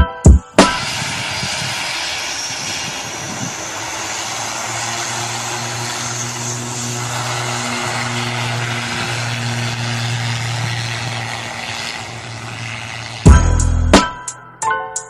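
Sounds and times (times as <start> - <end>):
engine humming steadily: 0.0 - 14.7
rushing hiss: 0.5 - 13.3.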